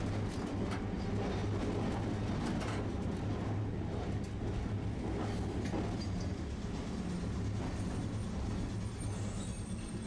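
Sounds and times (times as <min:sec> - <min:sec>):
tram motors and wheels humming: 0:00.0 - 0:10.0.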